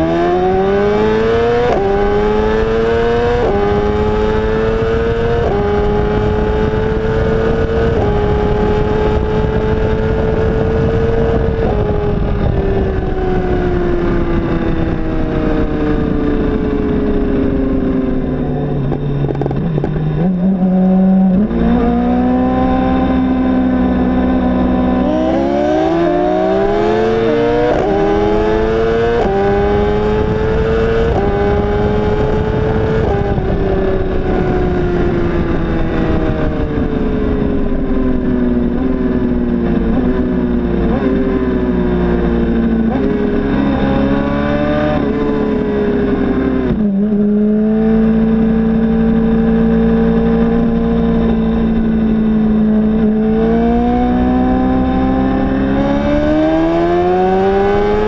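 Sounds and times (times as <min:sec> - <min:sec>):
motorcycle engine accelerating: 0:00.0 - 0:58.0
wind rush on microphone: 0:00.0 - 0:58.0.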